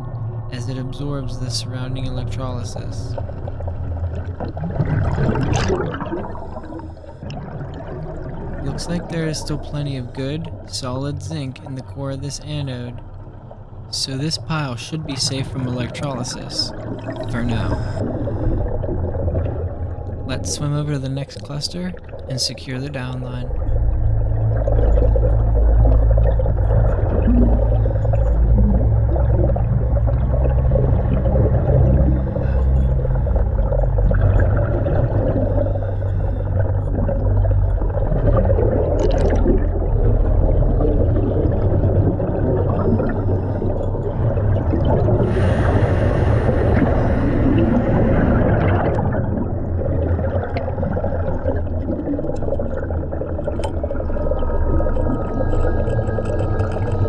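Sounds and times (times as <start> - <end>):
low underwater rumble: 0.0 - 57.0.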